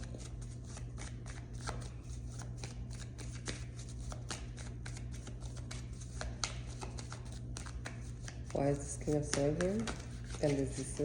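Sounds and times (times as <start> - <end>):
cards being shuffled: 0.0 - 11.0
steady low hum: 0.0 - 11.0.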